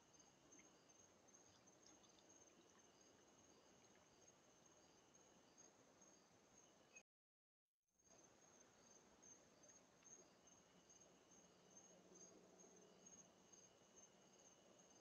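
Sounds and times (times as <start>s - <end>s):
steady high insect tone: 0.0s - 7.0s, 8.1s - 15.0s.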